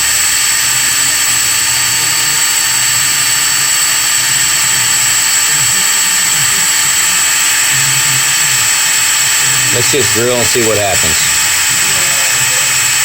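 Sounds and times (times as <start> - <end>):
electric drill whining under load: 0.0 - 13.0.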